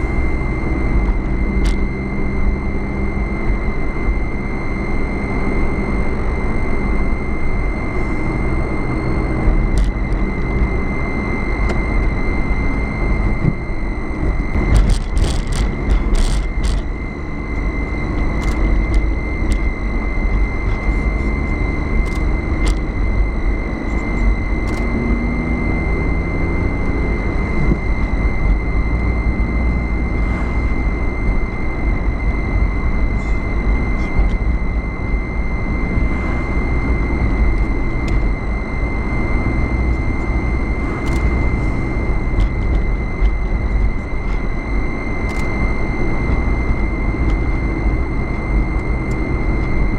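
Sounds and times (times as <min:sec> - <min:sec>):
car road and engine rumble: 0:00.0 - 0:49.9
high whine: 0:00.0 - 0:49.9.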